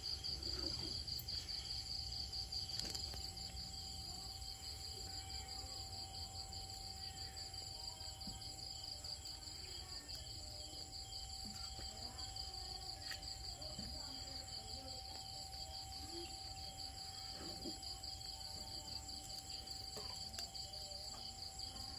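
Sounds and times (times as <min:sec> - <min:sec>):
insects chirping: 0:00.0 - 0:21.9.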